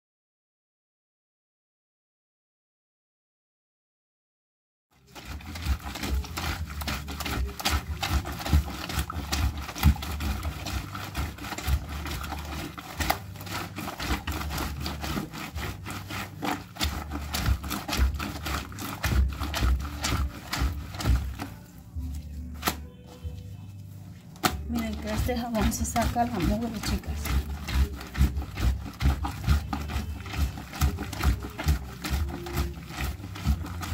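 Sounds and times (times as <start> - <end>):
wet cloth scrubbed on washboard: 5.0 - 23.5, 24.2 - 33.9.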